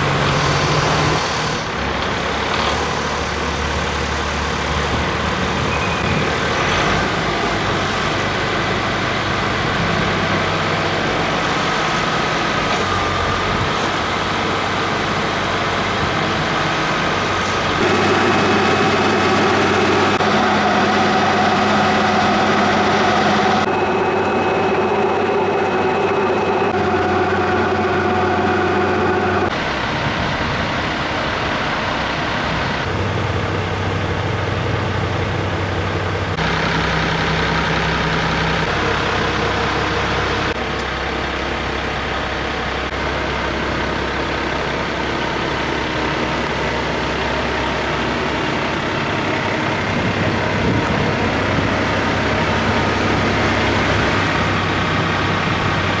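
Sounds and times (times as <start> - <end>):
snow removal vehicle engines idling: 0.0 - 56.0.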